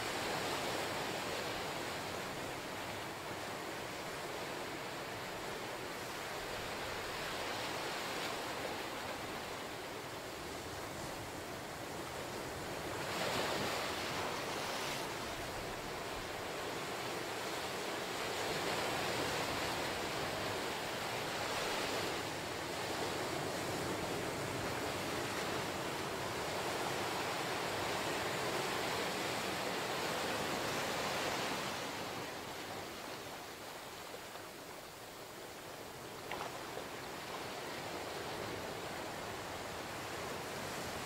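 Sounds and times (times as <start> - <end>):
ocean surf washing up beach: 0.0 - 41.0.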